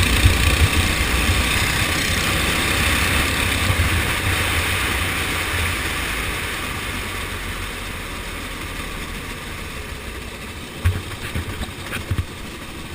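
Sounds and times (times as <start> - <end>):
go-kart engine: 0.0 - 12.9.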